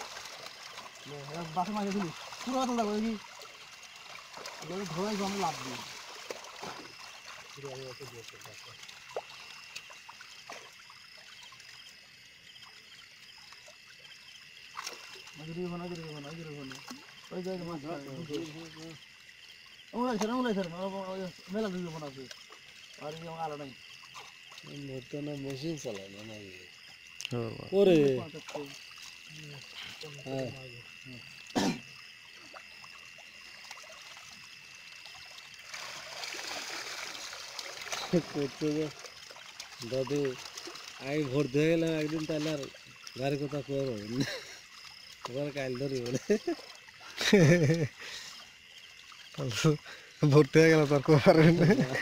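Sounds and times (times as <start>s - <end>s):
night insects chorus: 0.0s - 52.0s
water trickling and splashing: 0.0s - 52.0s.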